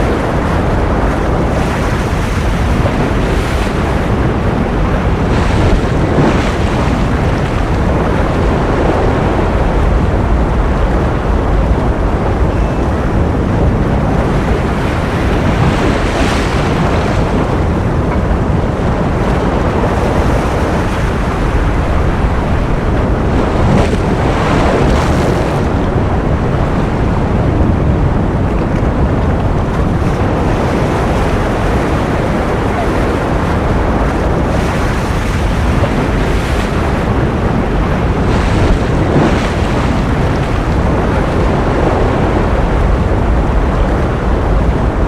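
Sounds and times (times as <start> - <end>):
ocean surf: 0.0 - 45.0.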